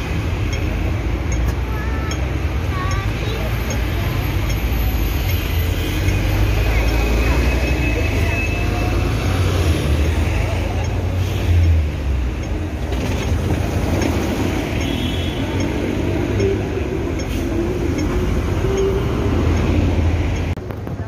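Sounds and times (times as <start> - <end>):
street traffic noise: 0.0 - 21.0.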